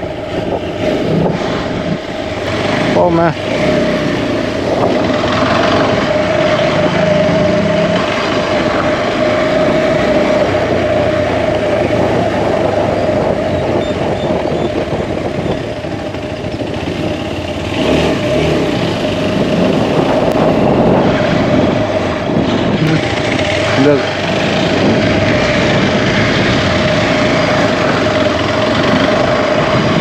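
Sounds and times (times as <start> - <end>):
motorcycle engine running: 0.0 - 30.0
wind rush: 0.0 - 30.0.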